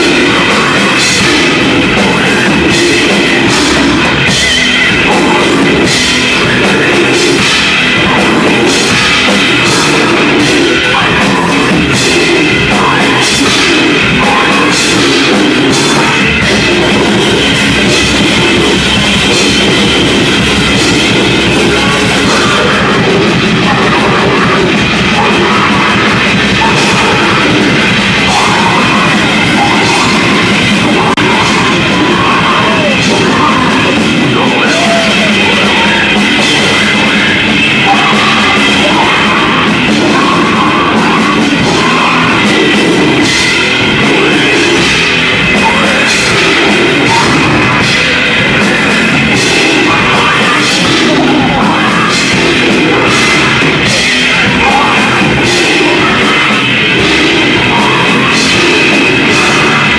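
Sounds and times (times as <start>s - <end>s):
loud live grindcore band: 0.0s - 59.9s
rapid drum and cymbal hits: 0.0s - 59.9s.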